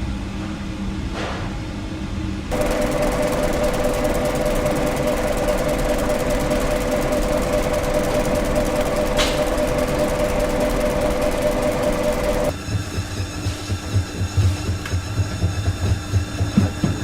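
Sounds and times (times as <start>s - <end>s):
machine humming and rattling: 2.5s - 17.0s
machine low hum: 2.5s - 17.0s.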